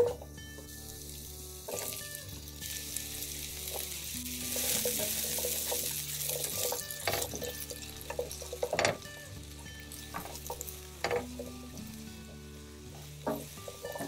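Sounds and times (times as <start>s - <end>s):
mushrooms sizzling in oil: 0.0s - 14.0s.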